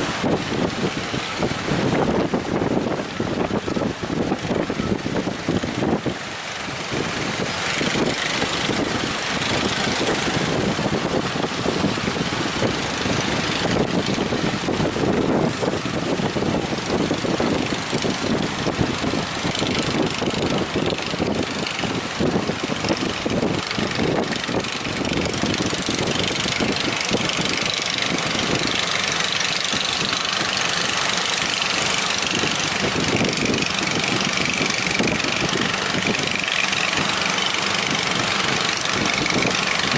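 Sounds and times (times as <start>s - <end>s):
boat engine pulsing: 0.0s - 39.9s.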